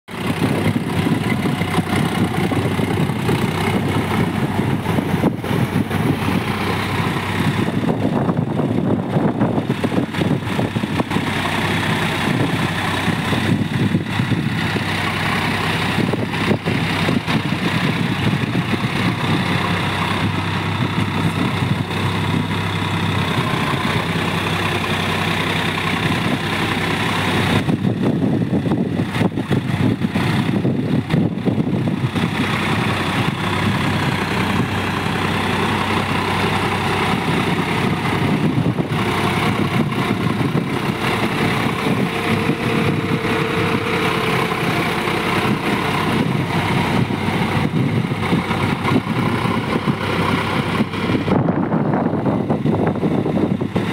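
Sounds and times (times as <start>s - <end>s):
tractor diesel engine running: 0.1s - 53.9s.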